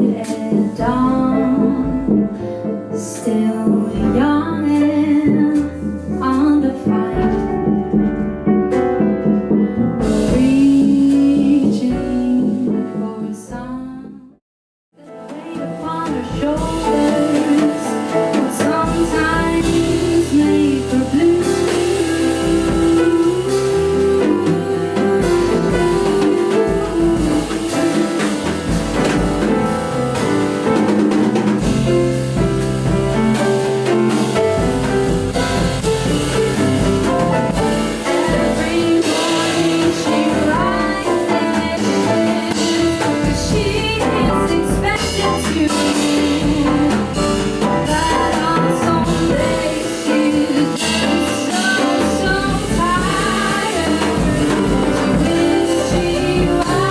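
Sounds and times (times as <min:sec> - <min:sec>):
woman singing: 0:00.0 - 0:08.0, 0:10.0 - 0:14.4, 0:15.0 - 0:56.9
live jazz band: 0:00.0 - 0:13.8, 0:15.0 - 0:56.9.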